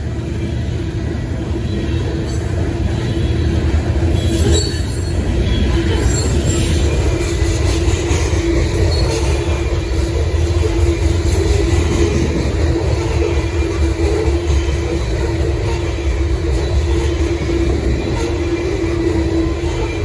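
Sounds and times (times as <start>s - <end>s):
freight train cars rumbling: 0.0s - 20.0s
train wheels squealing on rail: 0.0s - 20.0s.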